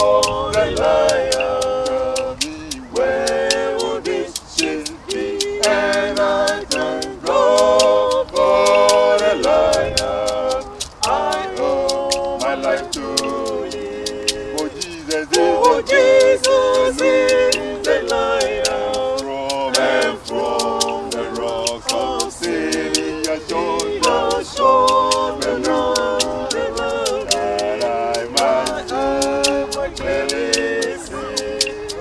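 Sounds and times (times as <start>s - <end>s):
group singing in harmony: 0.0s - 32.0s
sharp claps: 4.6s - 32.0s.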